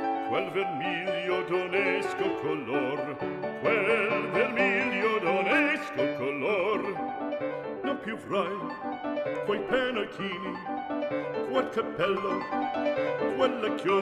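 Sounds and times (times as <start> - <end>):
operatic singing with accompaniment: 0.0 - 7.2, 7.8 - 14.0.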